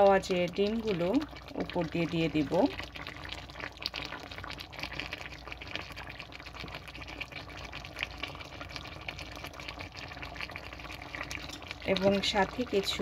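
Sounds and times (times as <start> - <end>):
gravy simmering in frying pan: 0.0 - 13.0.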